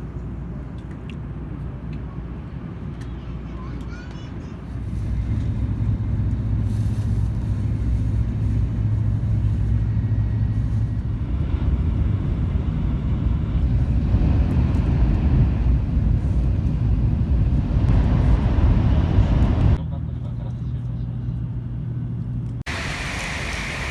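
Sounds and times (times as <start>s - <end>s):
train running noise rumble: 0.0s - 23.9s.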